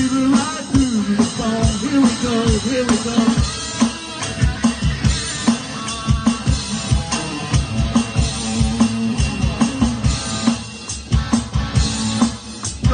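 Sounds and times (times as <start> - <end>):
bass guitar: 0.0 - 12.9
drum kit beat: 0.0 - 12.9
electric guitar: 0.0 - 12.9.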